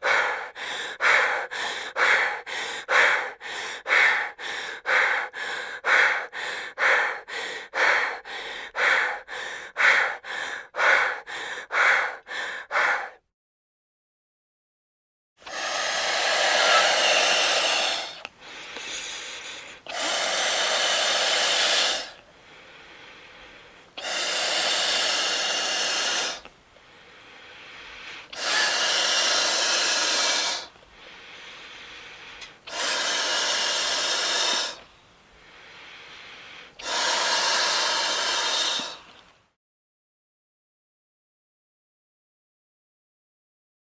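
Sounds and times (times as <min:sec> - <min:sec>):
heavy breathing: 0:00.0 - 0:13.3, 0:15.4 - 0:39.2.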